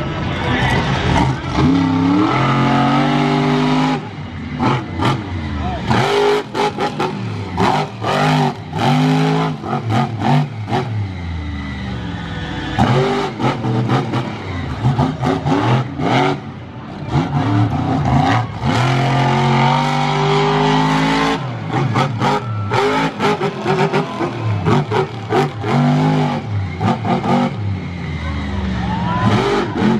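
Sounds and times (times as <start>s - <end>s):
truck engine revving: 0.0s - 29.9s.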